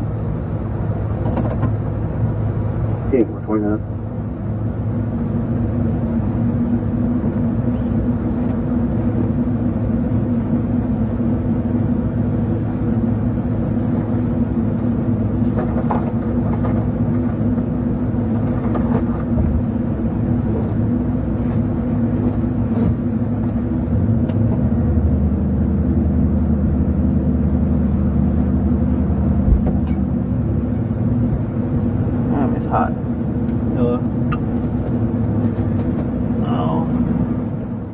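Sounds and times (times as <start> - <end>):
car engine and road drone: 0.0 - 37.9.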